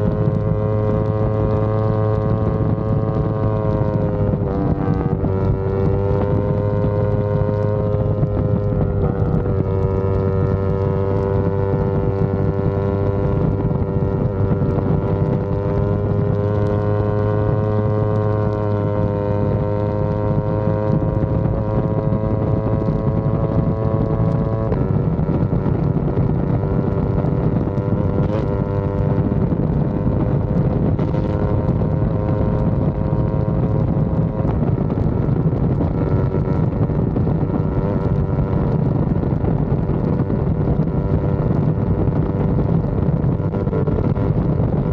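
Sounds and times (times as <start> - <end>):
motorcycle engine at high revs: 0.0 - 44.9
wind noise on microphone: 0.0 - 44.9.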